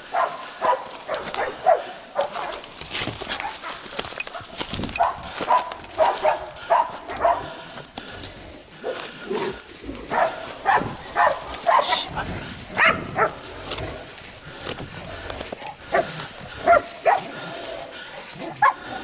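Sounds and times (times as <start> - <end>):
dogs barking: 0.0 - 2.7, 3.3 - 7.7, 8.8 - 13.8, 15.7 - 19.0
dry leaves and twigs crackling: 0.0 - 19.0.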